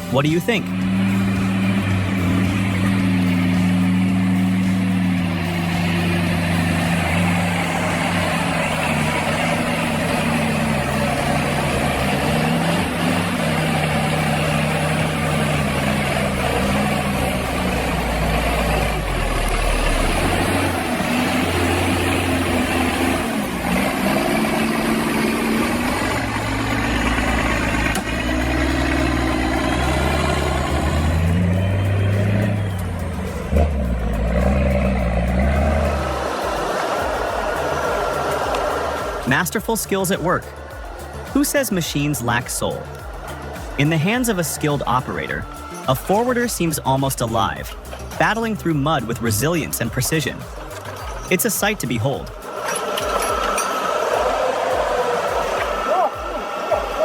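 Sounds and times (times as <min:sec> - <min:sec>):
heavy vehicle engine revving: 0:00.0 - 0:51.5.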